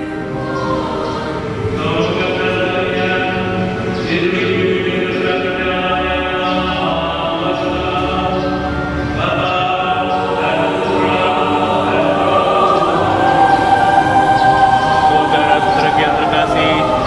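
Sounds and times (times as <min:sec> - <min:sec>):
choir singing long notes: 0:00.0 - 0:17.0.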